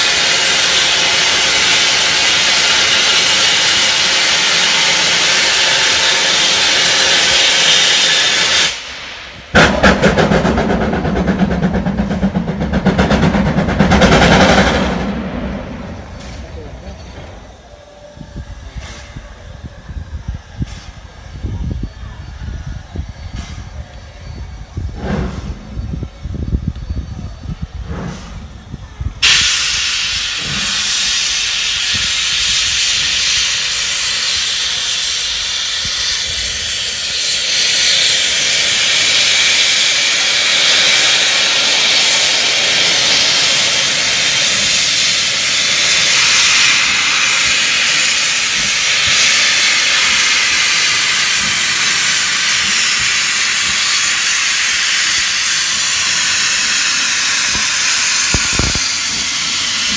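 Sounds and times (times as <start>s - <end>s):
steam locomotive hissing steam: 0.0s - 59.9s.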